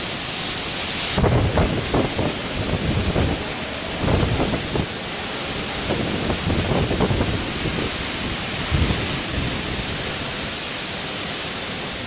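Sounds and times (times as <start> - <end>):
heavy rain: 0.0 - 12.0
storm wind: 0.0 - 12.0
wind buffeting microphone: 1.0 - 10.7.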